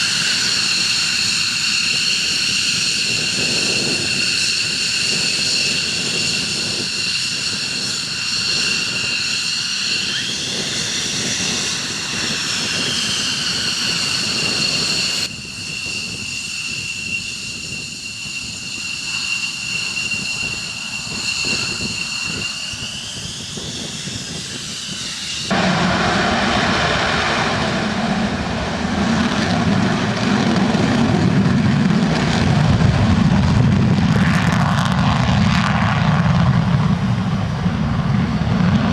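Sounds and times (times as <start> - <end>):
jet engine turbine whine: 0.0 - 38.9
low rumble with hissing roar: 0.0 - 38.9.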